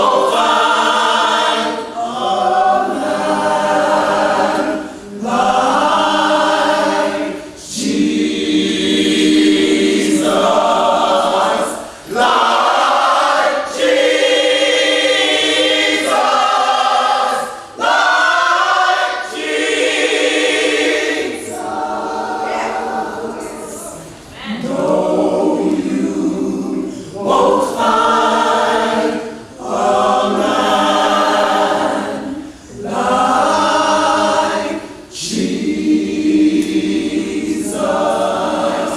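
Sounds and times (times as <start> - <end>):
gospel choir singing: 0.0 - 38.9.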